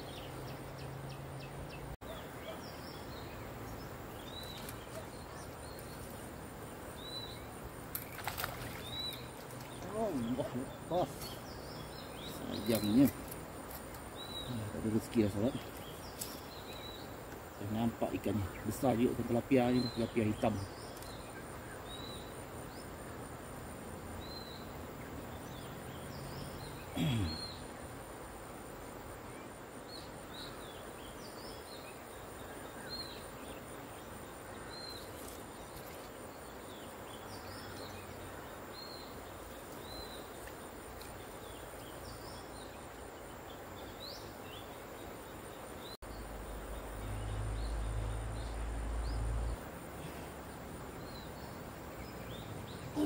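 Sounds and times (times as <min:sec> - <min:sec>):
insect buzz: 0:00.0 - 0:53.0
small birds chirping: 0:00.0 - 0:53.0.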